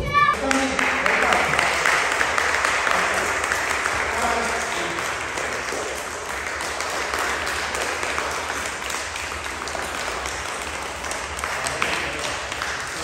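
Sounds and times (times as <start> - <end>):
children clapping: 0.0 - 13.0.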